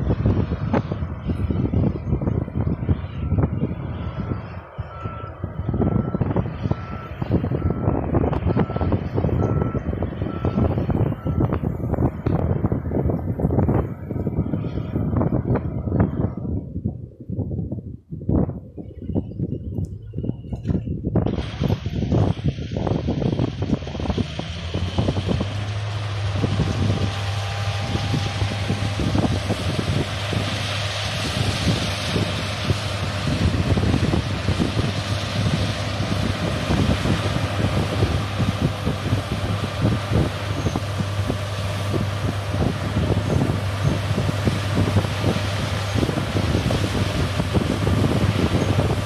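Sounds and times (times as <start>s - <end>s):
combine harvester running: 0.0s - 17.0s, 19.8s - 49.0s
wind buffeting microphone: 0.0s - 49.0s.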